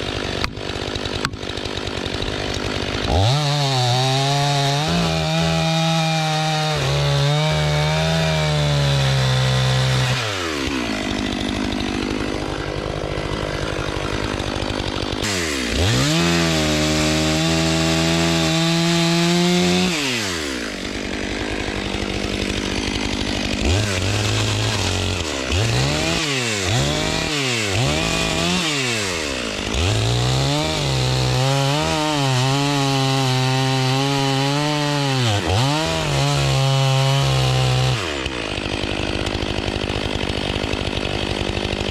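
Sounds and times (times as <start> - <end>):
chainsaw cutting logs: 0.0 - 41.9
chainsaw revving: 0.0 - 41.9.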